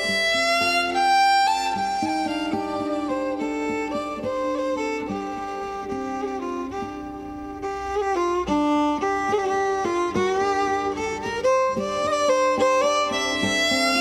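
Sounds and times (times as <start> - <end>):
fiddle playing a melody: 0.0 - 14.0.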